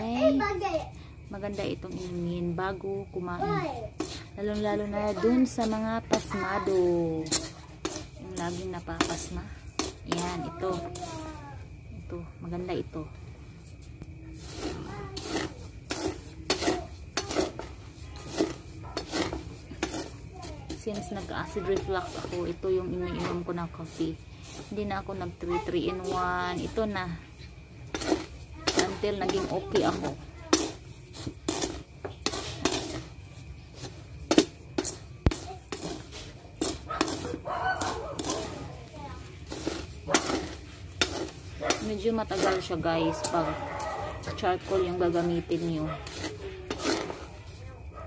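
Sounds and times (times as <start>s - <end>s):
wooden spoon scraping a pan: 0.0s - 48.0s
rice grains rustling: 1.5s - 12.1s, 12.8s - 47.8s.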